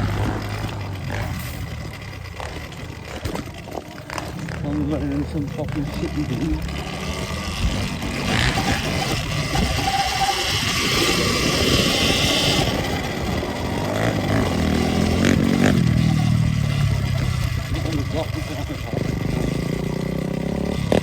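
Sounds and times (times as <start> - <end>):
electric dirt bike riding: 0.0 - 21.0.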